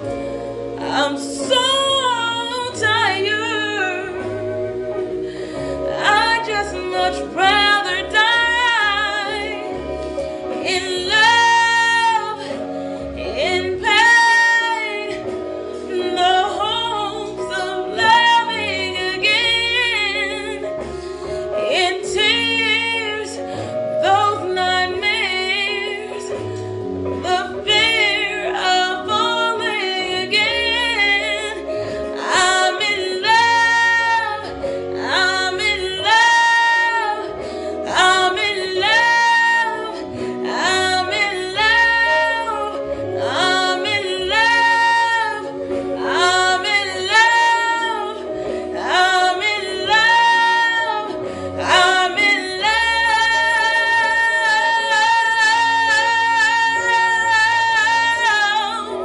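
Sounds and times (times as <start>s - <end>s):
instrumental backing track: 0.0s - 59.0s
woman singing: 0.0s - 59.0s.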